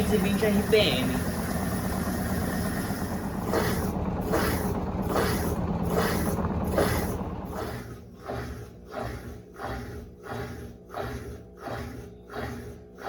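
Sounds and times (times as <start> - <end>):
washing machine motor hum: 0.0 - 13.0
washing machine whooshing surge: 0.0 - 13.0.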